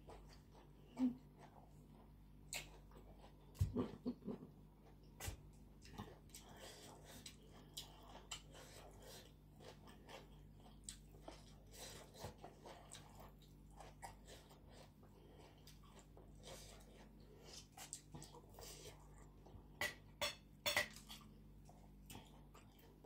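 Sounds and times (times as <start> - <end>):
close-up chewing and mouth sounds: 0.0 - 23.0
faint steady hum: 0.0 - 23.0.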